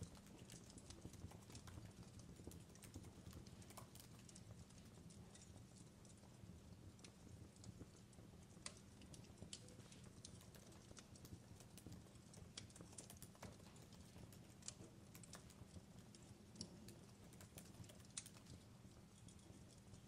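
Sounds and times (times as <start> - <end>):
burning wood crackling: 0.0 - 20.0.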